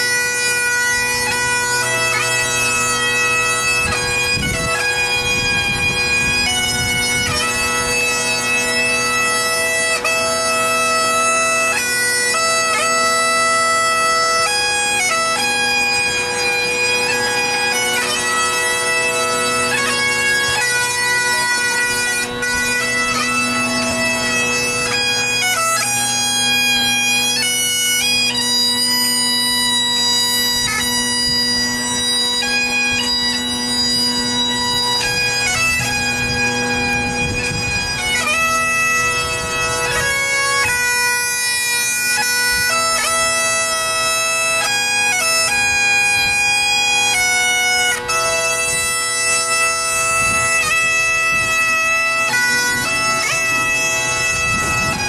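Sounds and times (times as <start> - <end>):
bagpipes playing melody: 0.0 - 55.0.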